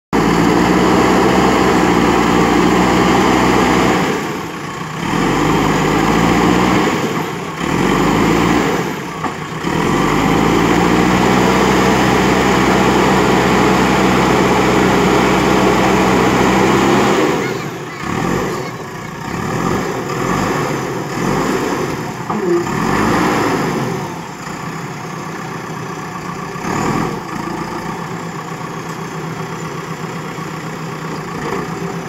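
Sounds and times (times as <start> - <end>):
diesel engine running hard: 0.2 - 32.0.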